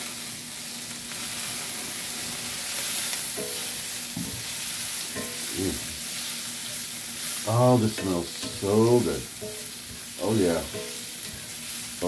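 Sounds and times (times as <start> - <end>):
vegetables sizzling in a skillet: 0.0 - 12.0
spatula stirring in a pan: 1.1 - 12.0.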